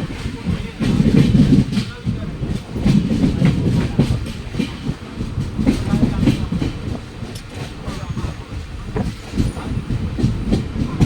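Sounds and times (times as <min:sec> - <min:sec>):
train rumbling on rails: 0:00.0 - 0:11.0
wheels clacking over rail joints: 0:00.0 - 0:11.0.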